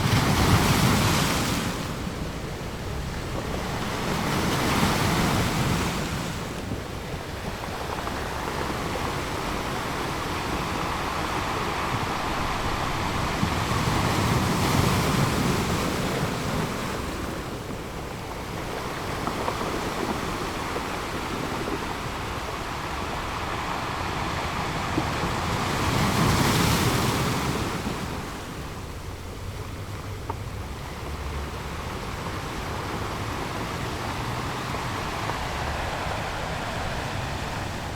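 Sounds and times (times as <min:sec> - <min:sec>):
ocean waves washing in: 0:00.0 - 0:29.9, 0:30.5 - 0:37.9.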